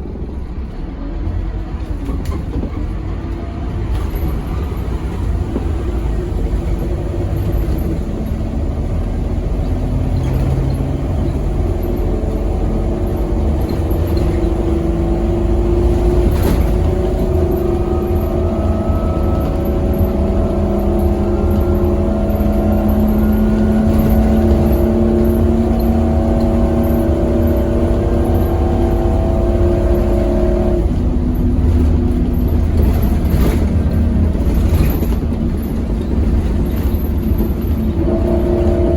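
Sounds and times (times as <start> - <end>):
diesel bus engine rumbling: 0.0 - 38.9.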